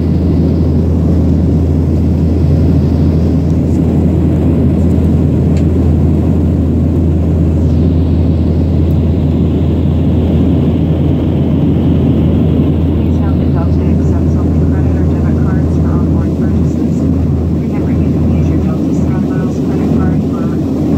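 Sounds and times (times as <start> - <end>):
airliner cabin rumble: 0.0 - 20.9.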